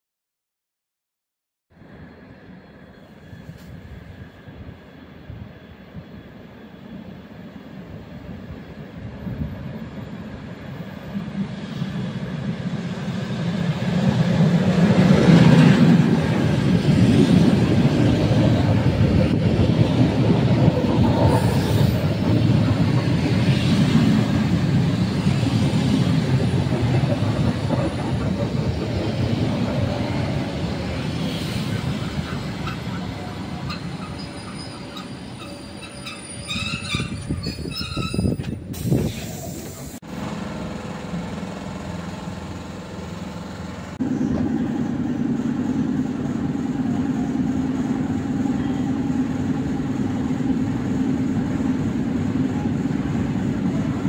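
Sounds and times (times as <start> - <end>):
electric train rumbling: 1.7 - 54.0.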